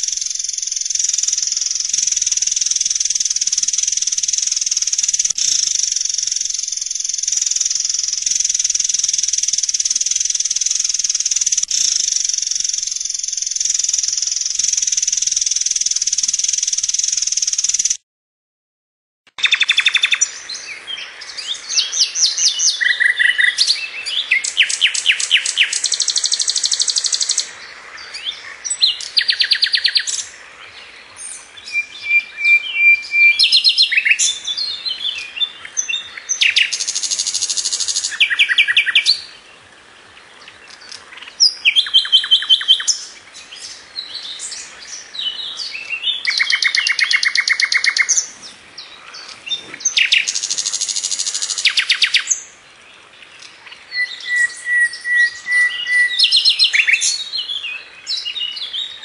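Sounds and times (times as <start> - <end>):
songbird singing trills: 0.0 - 18.0, 19.4 - 59.0.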